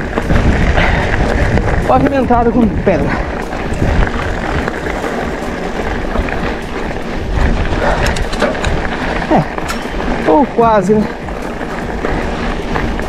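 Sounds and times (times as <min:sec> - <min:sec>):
bike tyres crunching on gravel: 0:00.0 - 0:13.0
wind buffeting microphone: 0:00.0 - 0:13.0.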